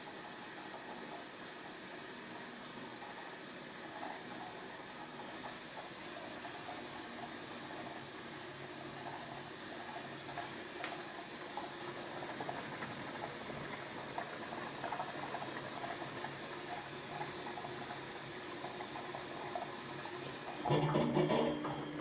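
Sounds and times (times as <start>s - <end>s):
washing machine running: 0.0s - 22.0s.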